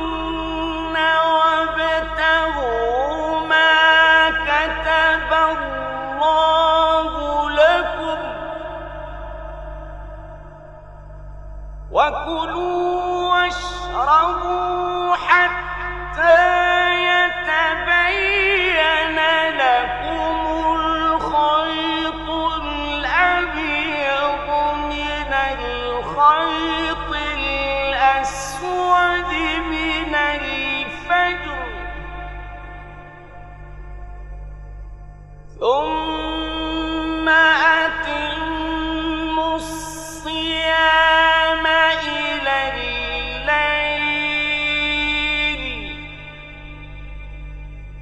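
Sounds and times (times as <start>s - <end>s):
man reciting melodically: 0.0s - 10.3s, 11.9s - 33.2s, 35.6s - 46.8s.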